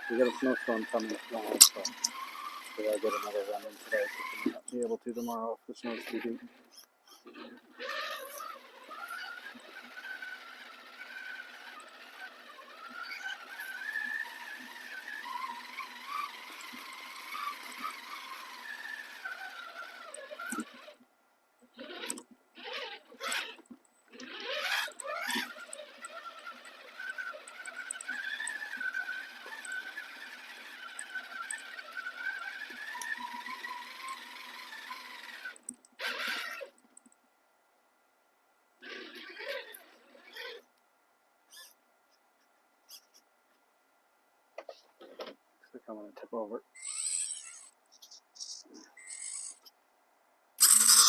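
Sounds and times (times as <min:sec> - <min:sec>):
electric motor and gears whining: 0:00.0 - 0:21.0, 0:21.6 - 0:37.1, 0:38.8 - 0:40.7, 0:46.7 - 0:49.7, 0:50.6 - 0:51.0.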